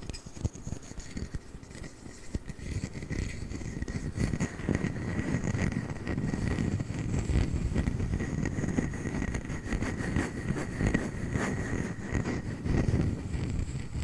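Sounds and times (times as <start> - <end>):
scratching on wooden lid: 0.0 - 14.0.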